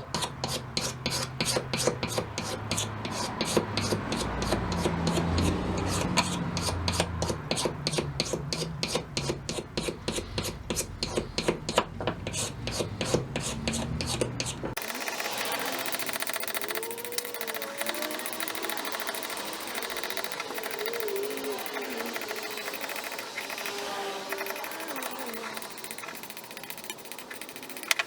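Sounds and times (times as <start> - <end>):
razor blade scraping wood: 0.0 - 28.0.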